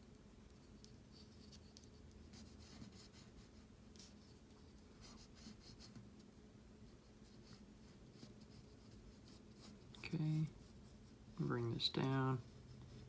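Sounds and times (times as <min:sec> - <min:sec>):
faint low hum: 0:00.0 - 0:13.0
pencil scratching on paper: 0:00.5 - 0:06.1, 0:06.9 - 0:13.0.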